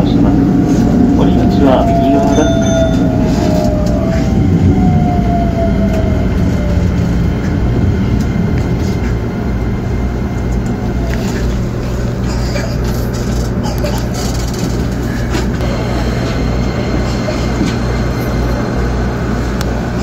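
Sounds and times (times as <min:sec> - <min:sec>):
train motor whine: 0:00.0 - 0:20.0
train running gear rumble: 0:00.0 - 0:20.0.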